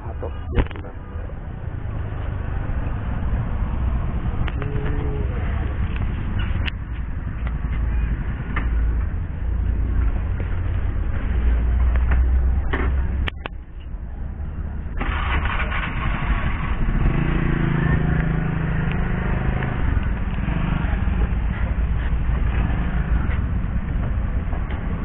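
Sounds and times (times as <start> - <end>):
outdoor noise: 0.0 - 25.0
vehicle engine humming: 0.0 - 25.0.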